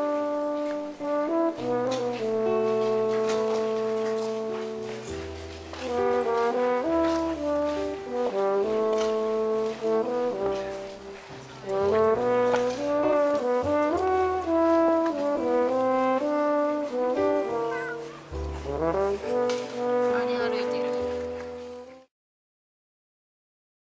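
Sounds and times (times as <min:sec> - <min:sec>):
instrumental background music: 0:00.0 - 0:22.1.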